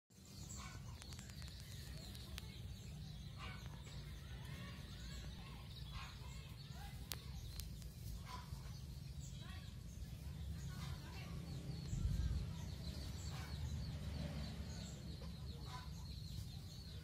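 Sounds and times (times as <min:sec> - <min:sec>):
steady low rumble: 0:00.5 - 0:15.5.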